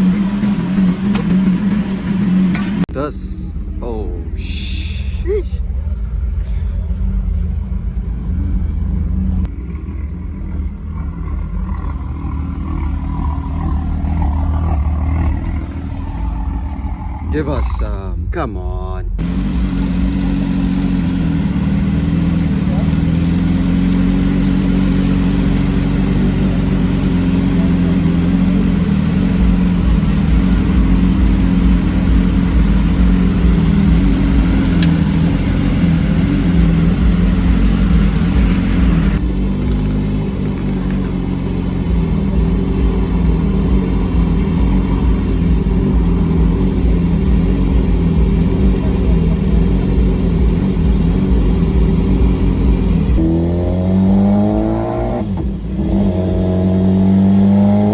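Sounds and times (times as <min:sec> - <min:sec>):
voices: 0:00.0 - 0:39.3, 0:40.2 - 0:53.2
car engine running steadily: 0:00.0 - 0:57.9.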